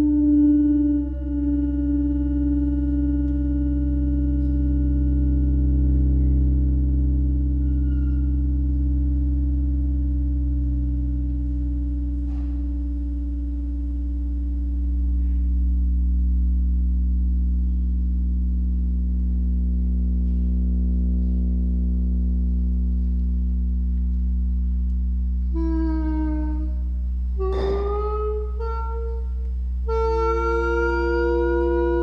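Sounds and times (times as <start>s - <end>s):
electronic drone of low sine tones: 0.0s - 32.0s.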